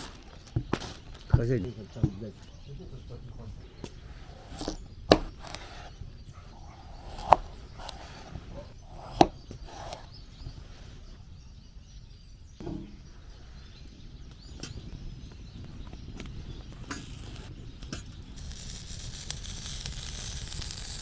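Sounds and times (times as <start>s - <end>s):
low outdoor background: 0.0s - 21.0s.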